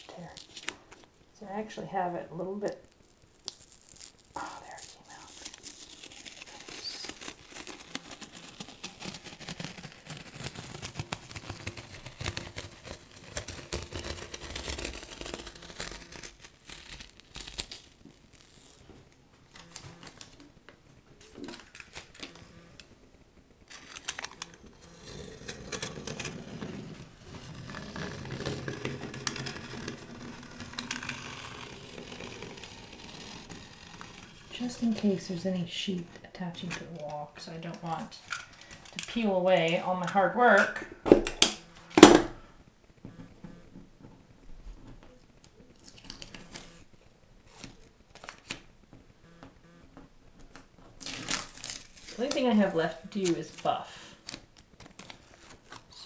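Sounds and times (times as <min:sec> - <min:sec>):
tape peeling and crumpling: 0:00.0 - 0:01.2, 0:02.1 - 0:40.6, 0:44.9 - 0:48.8, 0:50.4 - 0:56.0.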